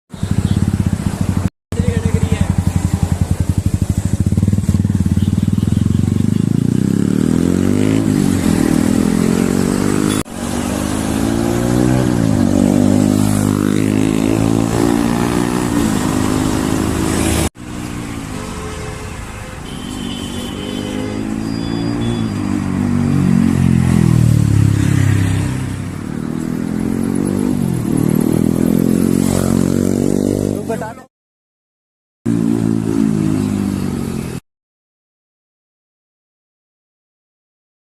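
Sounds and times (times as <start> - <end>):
motorcycle engine revving: 0.1 - 19.2, 20.1 - 30.9, 32.3 - 34.4.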